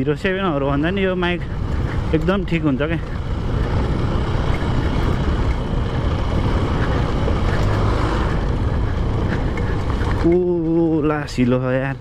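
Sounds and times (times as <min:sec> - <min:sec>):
motorcycle engine: 0:00.0 - 0:11.2
tyres on gravel: 0:00.0 - 0:12.0
wind buffeting microphone: 0:00.0 - 0:12.0.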